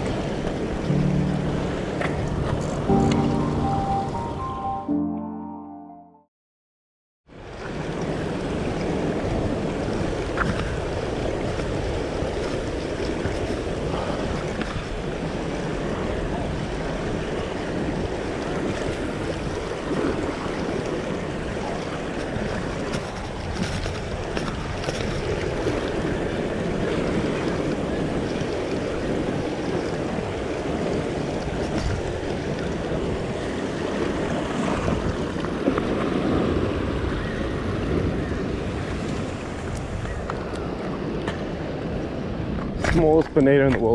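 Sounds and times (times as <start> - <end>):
ocean waves breaking on rock: 7.4 - 43.9
wind buffeting microphone: 7.6 - 43.9.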